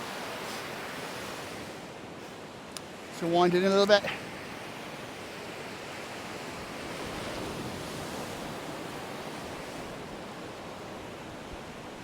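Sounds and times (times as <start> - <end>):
surf washing onto a beach: 0.0 - 12.0.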